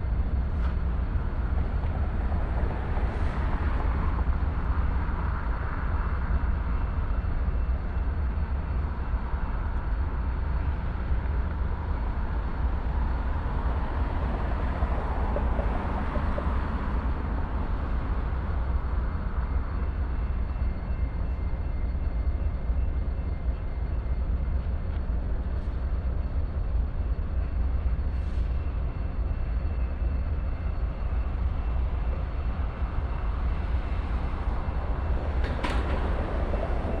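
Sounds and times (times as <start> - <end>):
freight train rumbling on rails: 0.0 - 37.0.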